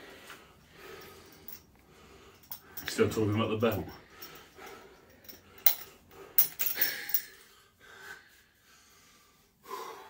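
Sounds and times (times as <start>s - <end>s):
man breathing hard: 0.0s - 2.9s, 4.0s - 10.0s.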